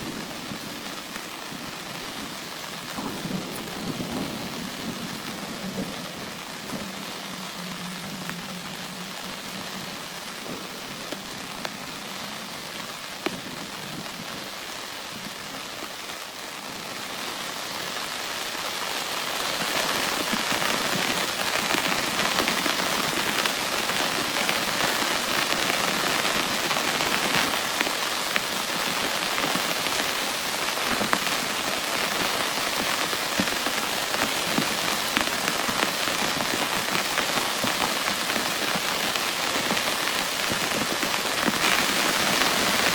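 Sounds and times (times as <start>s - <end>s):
heavy rain pouring: 0.0s - 42.9s
raindrops tapping sharply: 0.0s - 42.9s.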